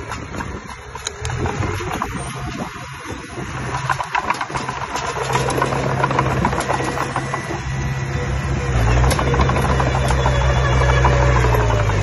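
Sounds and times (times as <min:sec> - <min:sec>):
bulldozer diesel engine under load: 0:00.0 - 0:12.0
rattling clicks and knocks: 0:00.0 - 0:12.0.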